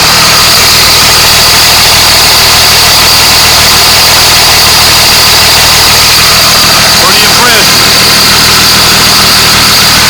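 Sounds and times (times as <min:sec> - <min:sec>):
diesel engine idling: 0:00.0 - 0:10.0
high-pitched whine: 0:00.0 - 0:10.0.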